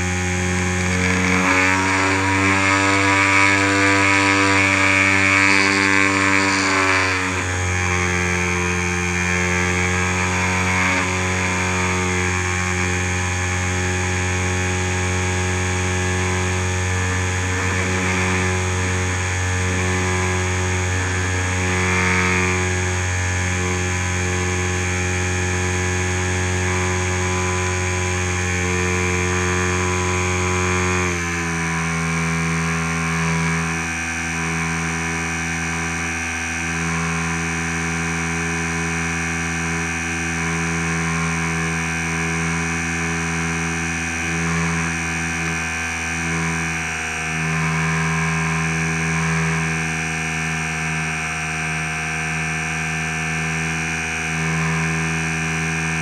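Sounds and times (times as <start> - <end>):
model plane motor buzzing whine: 0.0 - 56.0.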